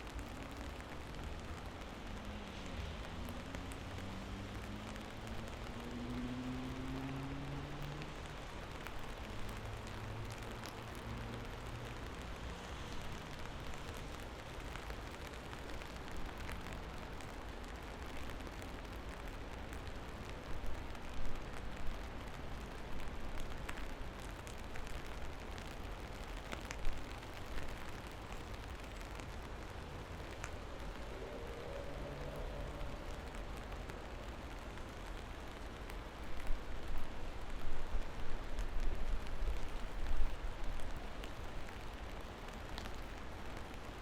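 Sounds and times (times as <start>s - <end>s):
low rain rumble: 0.0s - 44.0s
raindrops ticking on a surface: 0.0s - 44.0s.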